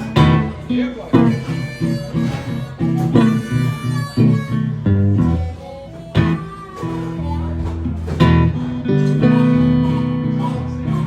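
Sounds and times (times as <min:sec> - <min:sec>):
blues guitar picking: 0:00.0 - 0:11.0
harmonica: 0:00.0 - 0:11.0.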